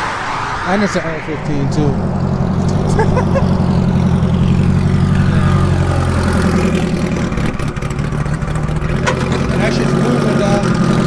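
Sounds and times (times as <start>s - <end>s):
car engine running: 1.2s - 11.0s.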